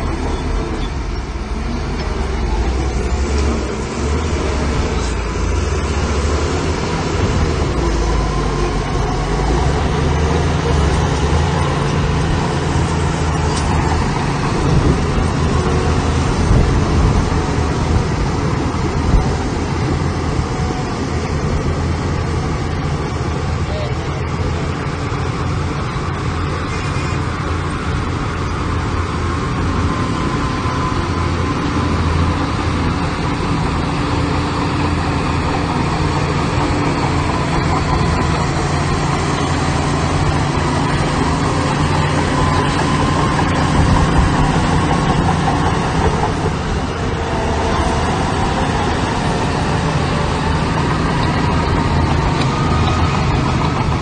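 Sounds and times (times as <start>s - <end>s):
heavy diesel engine under load: 0.0s - 54.0s.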